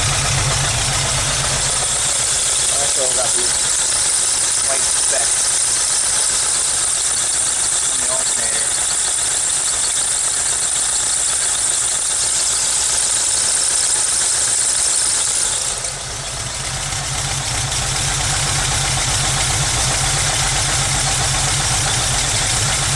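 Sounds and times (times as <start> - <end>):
engine idling roughly: 0.0 - 22.9.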